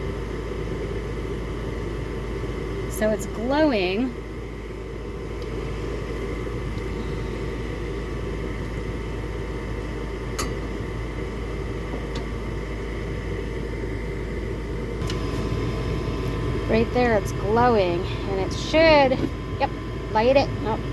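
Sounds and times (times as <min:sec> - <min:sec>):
furnace fan whirring: 0:00.0 - 0:20.9.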